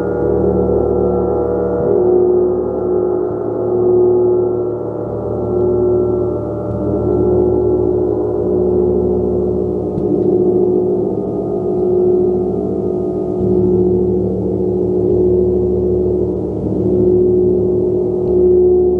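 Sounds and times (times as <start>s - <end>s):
large gong humming: 0.0s - 18.9s.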